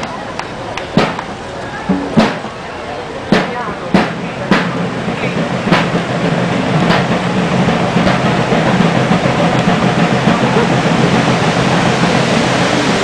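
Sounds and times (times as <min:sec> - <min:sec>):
water rushing over dam: 0:00.0 - 0:13.0.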